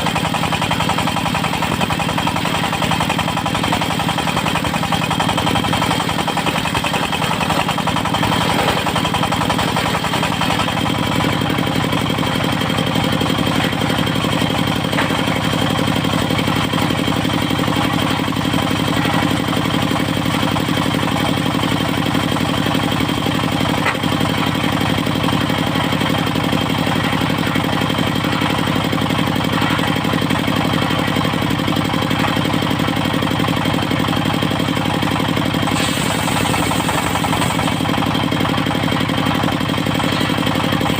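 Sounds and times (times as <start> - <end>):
sawmill engine chugging: 0.0 - 40.9.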